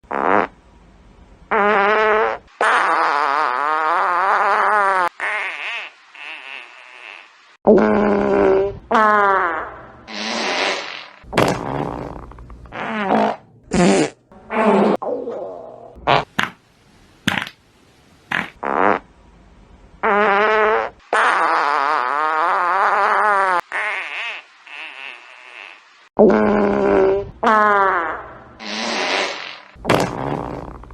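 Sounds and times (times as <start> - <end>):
fart sounds: 0.0 - 0.5, 1.5 - 16.6, 17.3 - 17.6, 18.3 - 19.1, 20.0 - 30.9.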